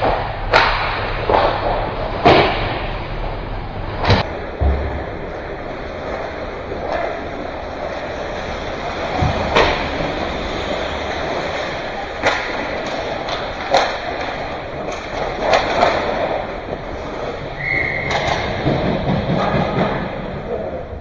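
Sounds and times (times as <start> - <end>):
puck and sticks knocking: 0.0 - 20.9
arena noise: 0.0 - 21.0.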